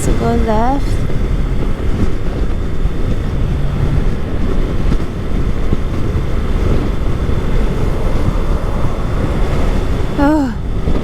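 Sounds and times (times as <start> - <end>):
motorcycle engine running: 0.0 - 9.3
wind buffeting microphone: 0.0 - 11.0.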